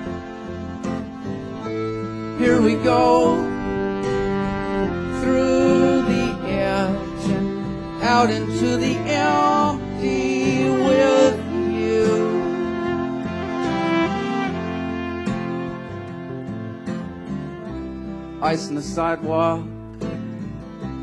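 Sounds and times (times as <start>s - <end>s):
bass: 0.0s - 21.0s
bowed fiddle melody: 0.0s - 21.0s
guitar: 0.0s - 21.0s.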